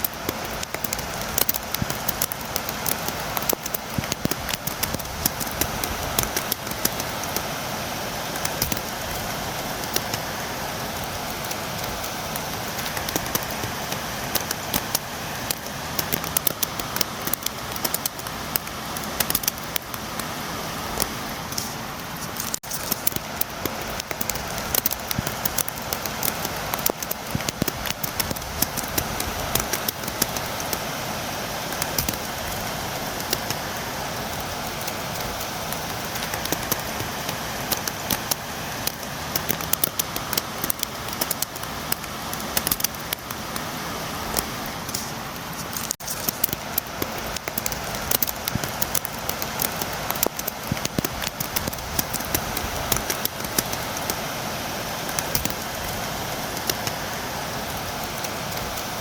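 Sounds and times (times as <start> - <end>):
rain tapping on window glass: 0.0 - 59.0.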